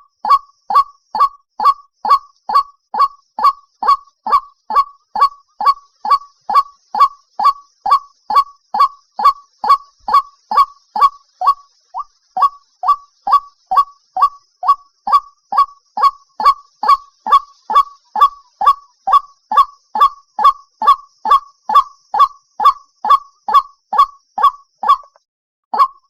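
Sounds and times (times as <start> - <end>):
waterhen calling harsh notes: 0.0 - 25.2, 25.8 - 26.0.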